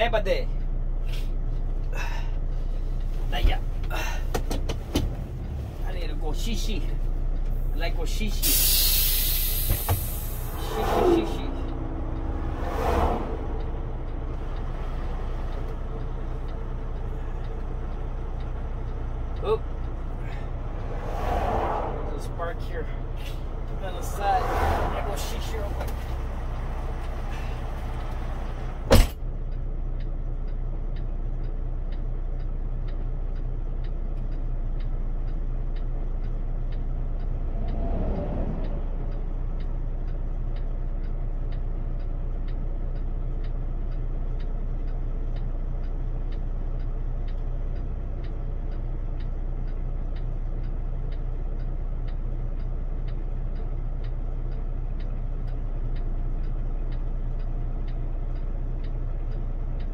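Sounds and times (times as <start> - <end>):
faint ticking: 0.0 - 59.9
truck engine and road noise: 0.0 - 59.9.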